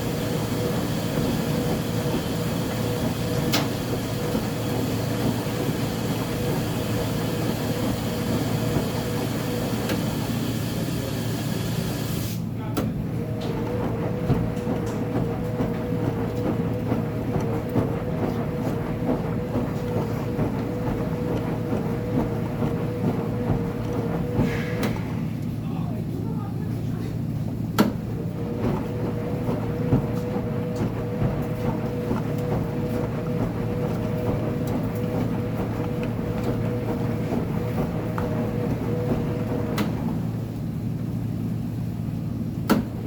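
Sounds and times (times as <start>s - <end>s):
washing machine rumble and hum: 0.0s - 43.0s.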